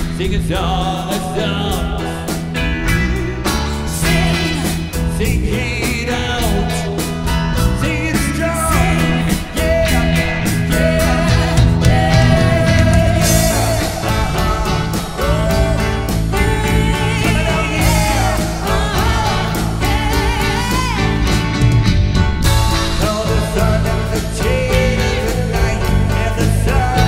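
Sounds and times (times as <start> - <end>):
person singing: 0.0 - 21.8, 22.4 - 27.0
drum and cymbal hits: 0.0 - 27.0
rock band playing: 0.0 - 27.0.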